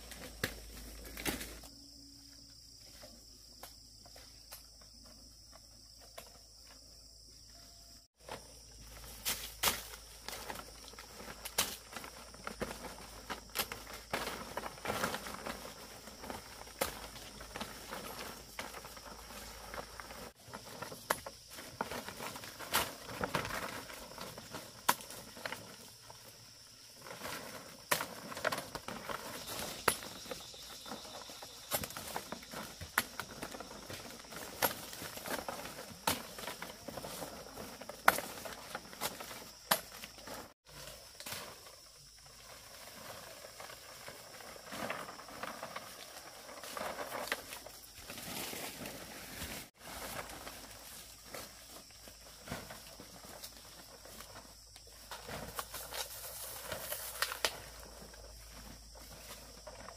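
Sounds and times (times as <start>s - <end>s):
foliage rustling: 8.2s - 59.9s.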